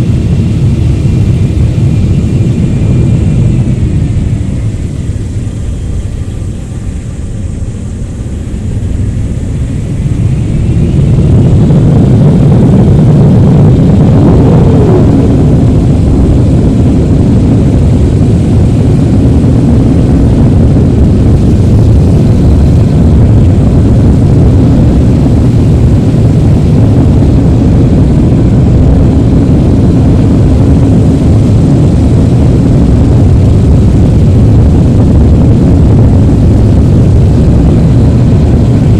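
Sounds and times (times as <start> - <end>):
jet engines rumbling at takeoff: 0.0 - 38.9.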